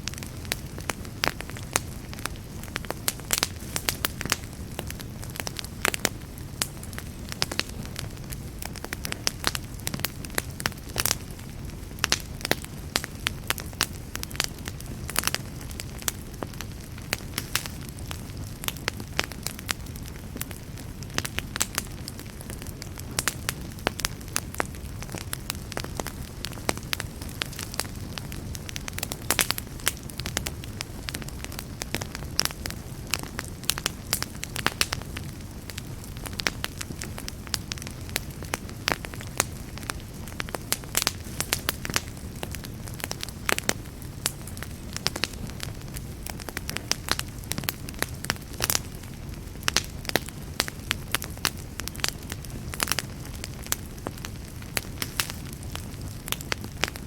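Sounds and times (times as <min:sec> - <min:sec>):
fire flames rumbling: 0:00.0 - 0:57.0
fire popping and snapping: 0:00.0 - 0:57.0.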